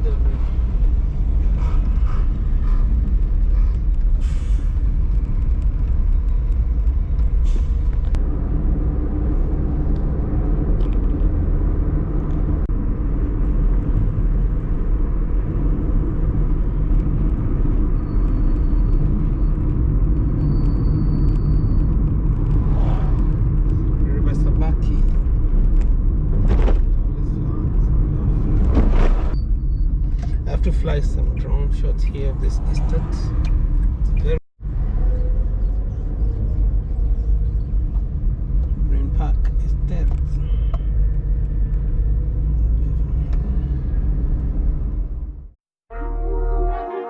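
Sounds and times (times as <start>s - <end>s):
car engine and tyres rumbling: 0.0s - 45.6s.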